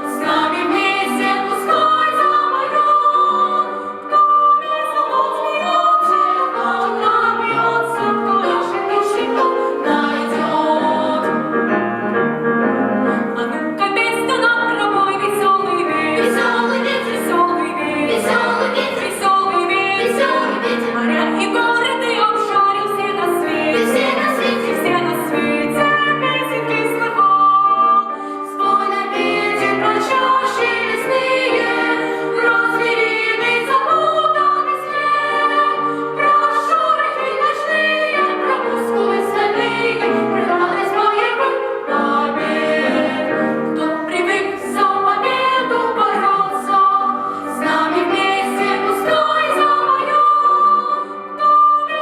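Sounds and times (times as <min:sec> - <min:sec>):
children's choir singing: 0:00.0 - 0:11.6, 0:13.8 - 0:52.0.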